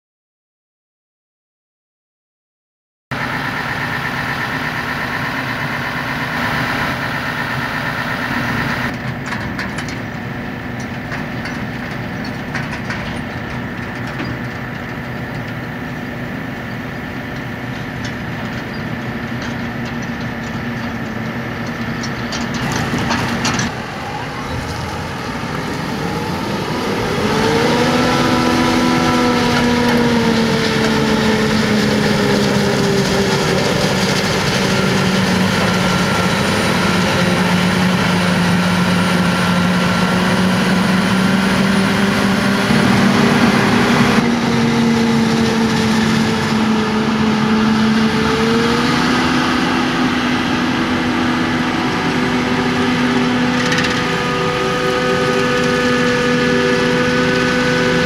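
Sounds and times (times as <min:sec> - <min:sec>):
diesel farm machinery running: 0:03.1 - 0:58.0
engine speeding up with whine: 0:03.1 - 0:58.0.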